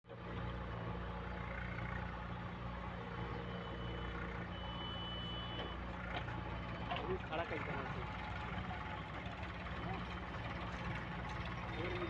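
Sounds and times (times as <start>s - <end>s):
diesel machinery engine hum: 0.0s - 12.0s.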